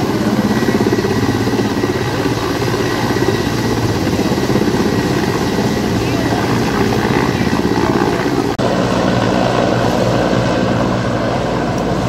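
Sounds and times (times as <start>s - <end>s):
helicopter hovering: 0.0s - 12.0s.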